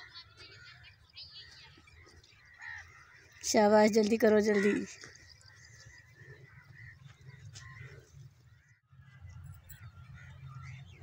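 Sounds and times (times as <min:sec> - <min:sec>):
distant bird calls: 0:00.0 - 0:11.0.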